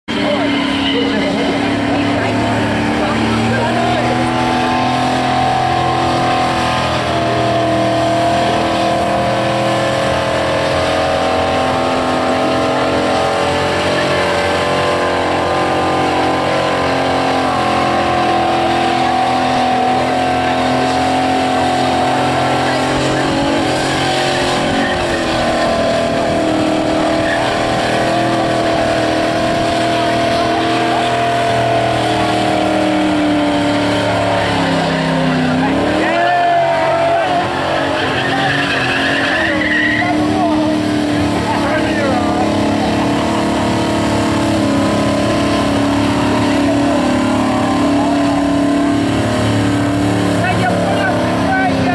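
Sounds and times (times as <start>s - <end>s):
car engine at high revs: 0.0s - 51.9s
tyres spinning: 0.2s - 51.9s.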